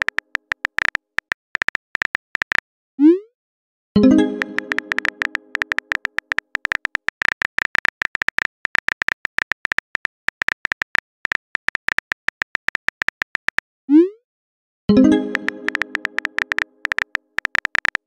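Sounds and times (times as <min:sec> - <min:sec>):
phone keyboard clicks: 0:00.0 - 0:02.6, 0:04.2 - 0:13.6, 0:15.1 - 0:18.0.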